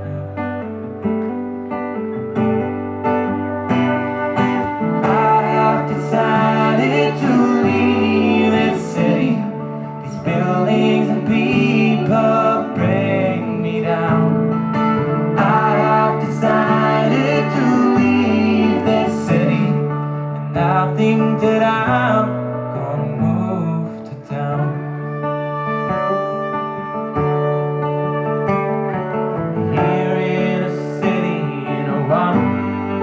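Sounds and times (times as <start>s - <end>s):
guitar-led song music: 0.0s - 33.0s.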